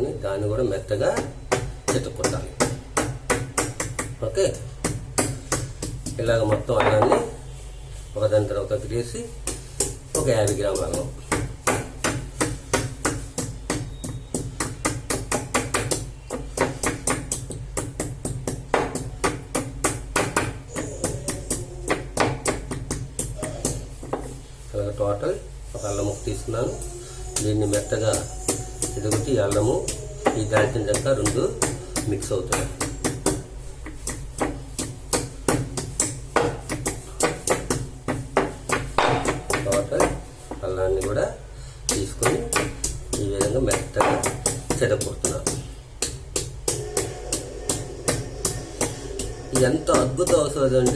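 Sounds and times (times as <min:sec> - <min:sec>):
pestle pounding in a mortar: 0:01.0 - 0:07.4, 0:09.4 - 0:24.4, 0:26.7 - 0:50.9.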